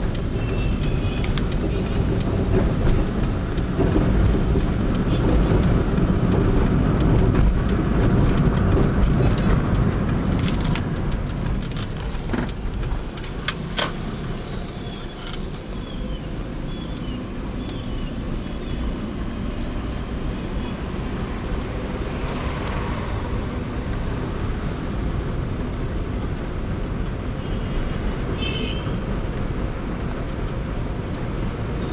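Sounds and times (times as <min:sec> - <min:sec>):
car engine and road rumble: 0:00.0 - 0:31.9.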